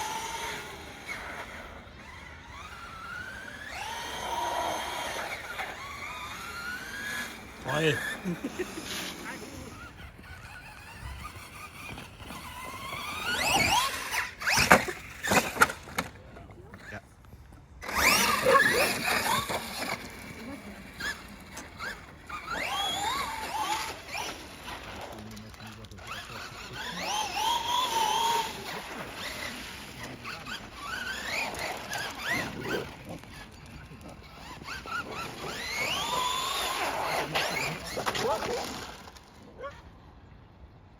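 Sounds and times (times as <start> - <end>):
electric motor whining: 0.0 - 16.2, 17.8 - 39.4.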